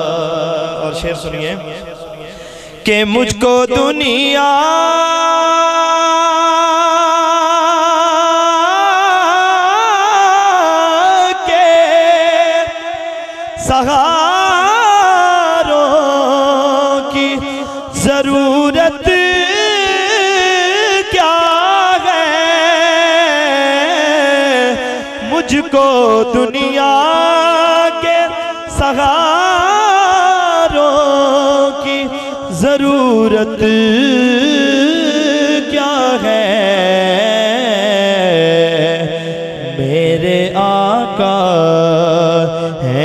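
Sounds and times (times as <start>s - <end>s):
man singing into a microphone: 0.0s - 43.0s.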